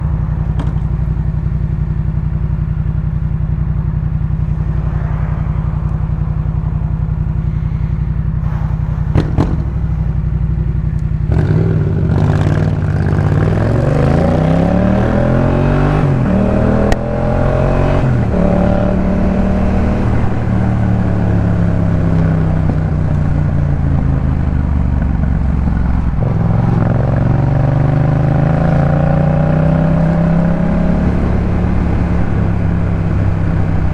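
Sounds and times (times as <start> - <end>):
motorcycle engine idling and accelerating: 0.0 - 33.9.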